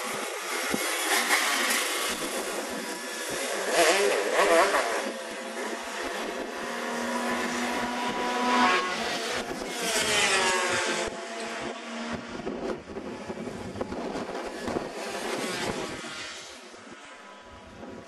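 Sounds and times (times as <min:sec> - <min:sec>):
racing motorcycle engines passing: 0:00.0 - 0:18.0.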